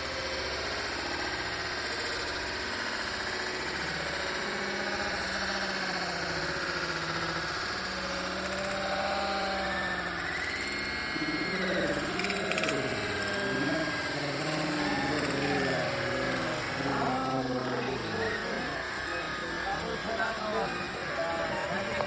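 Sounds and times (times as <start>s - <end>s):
model bulldozer motor hum and whine: 0.0s - 22.0s.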